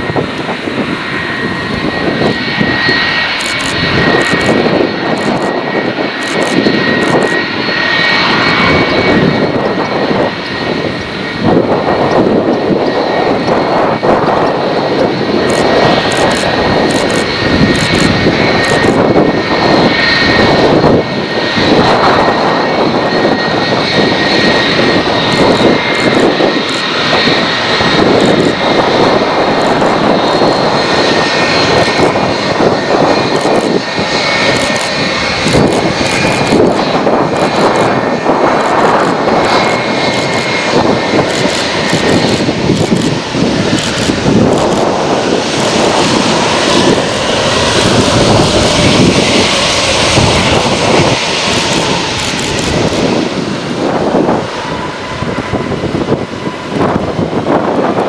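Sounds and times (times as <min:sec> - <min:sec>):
high engine whine: 0:00.0 - 0:58.0
jet engines crackling rumble: 0:00.0 - 0:58.0.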